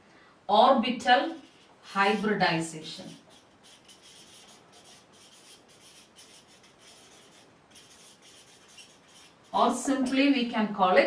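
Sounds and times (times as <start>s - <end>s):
marker pen scratching on paper: 1.1s - 10.2s.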